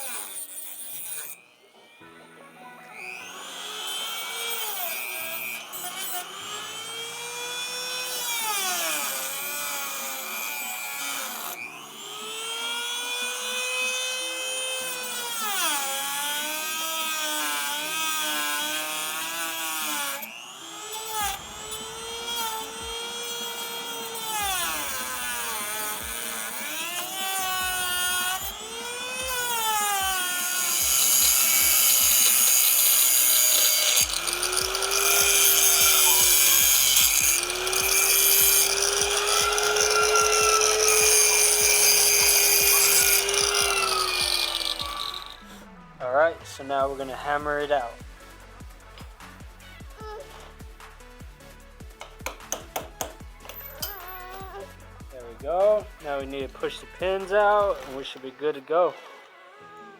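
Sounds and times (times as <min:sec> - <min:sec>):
power grinder cutting steel: 0:00.0 - 0:51.2, 0:51.9 - 0:59.9.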